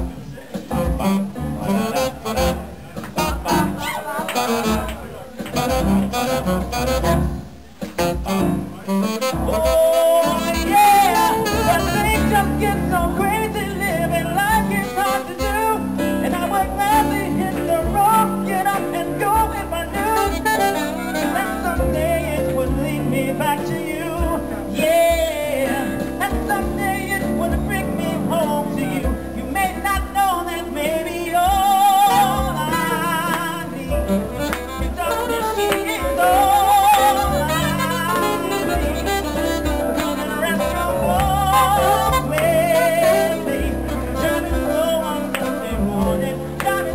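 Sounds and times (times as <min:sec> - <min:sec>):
man singing into microphone: 0:00.0 - 0:07.2, 0:08.0 - 0:46.9
piano accompaniment: 0:00.0 - 0:46.9
saxophone: 0:00.0 - 0:46.9.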